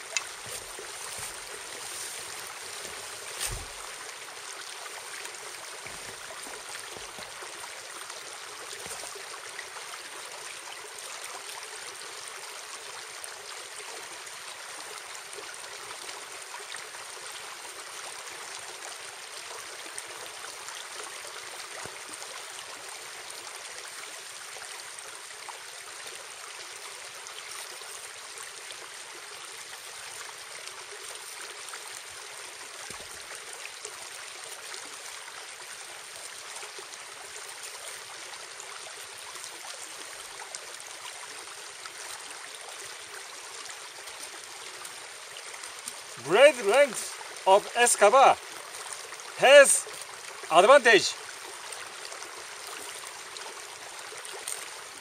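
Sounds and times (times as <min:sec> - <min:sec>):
running stream: 0:00.0 - 0:55.0.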